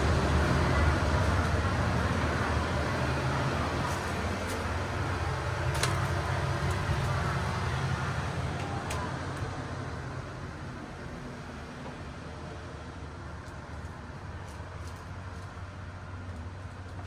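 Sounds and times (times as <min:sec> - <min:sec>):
diesel train idling: 0:00.0 - 0:17.0.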